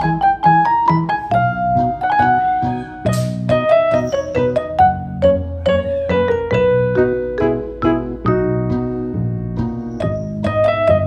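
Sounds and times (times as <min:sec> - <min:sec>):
keyboard music: 0:00.0 - 0:11.0.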